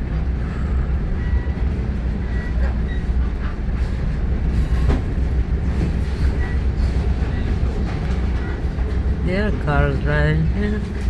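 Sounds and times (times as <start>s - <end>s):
railroad car rumbling on track: 0.0s - 11.0s.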